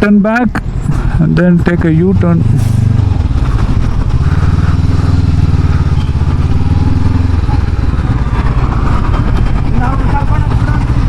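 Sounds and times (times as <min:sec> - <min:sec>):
motorcycle engine running: 0:02.0 - 0:11.0.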